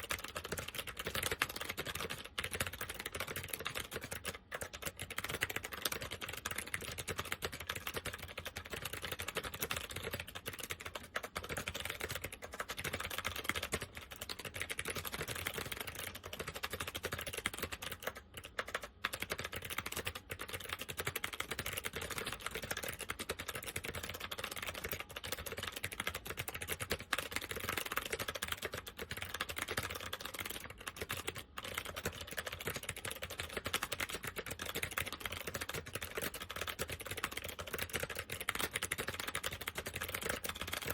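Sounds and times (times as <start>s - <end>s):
fast typing on clicky keyboard: 0.0s - 40.9s.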